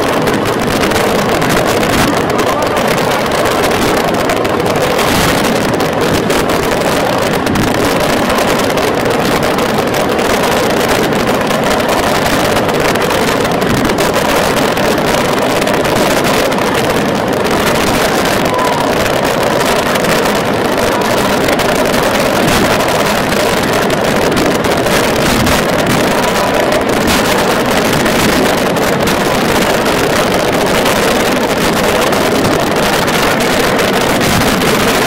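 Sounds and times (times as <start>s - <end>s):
fireworks explosions and crackles: 0.0s - 35.0s.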